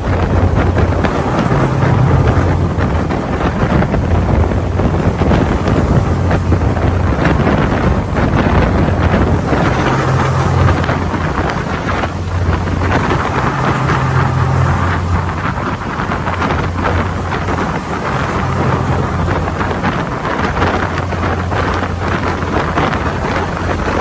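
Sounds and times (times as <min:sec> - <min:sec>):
ferry engine droning: 0:00.0 - 0:24.0
wind buffeting microphone: 0:00.0 - 0:24.0.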